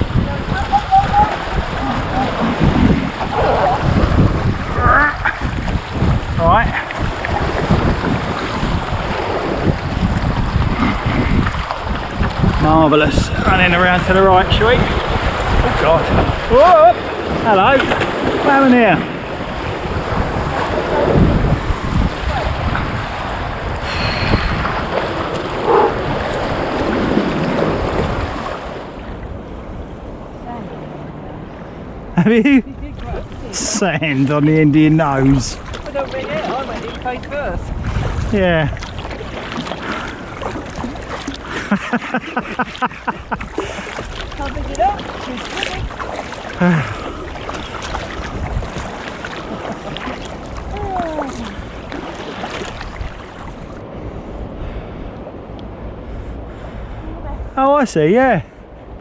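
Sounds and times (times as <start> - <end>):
water splashing and lapping: 0.0 - 31.0, 32.7 - 53.9
sea waves sloshing: 0.0 - 57.6
wind buffeting microphone: 0.0 - 57.6
paddles dipping: 0.1 - 29.4, 32.9 - 53.8.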